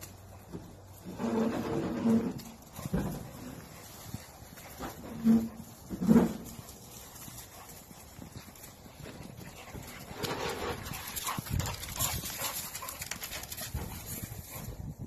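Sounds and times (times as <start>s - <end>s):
paws scuffling on ground: 0.0s - 15.0s.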